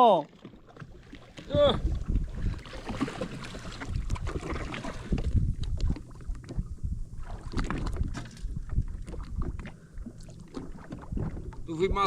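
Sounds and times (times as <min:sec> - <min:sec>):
water slapping against hull: 0:00.0 - 0:12.0
wind buffeting microphone: 0:00.8 - 0:12.0.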